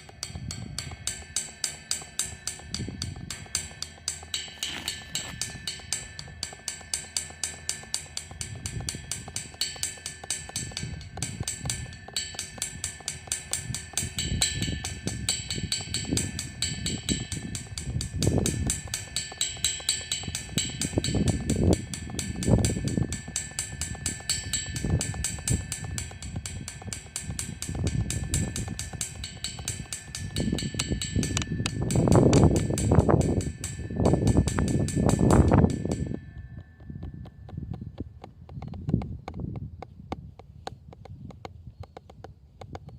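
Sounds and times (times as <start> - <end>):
cymbal strokes: 0.0 - 36.9.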